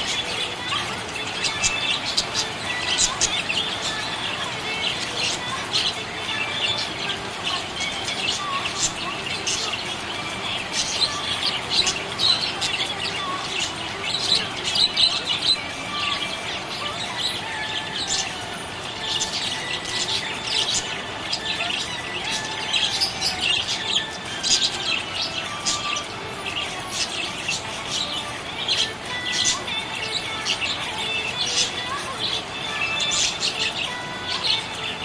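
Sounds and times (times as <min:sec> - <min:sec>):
budgies chirping: 0:00.0 - 0:35.0.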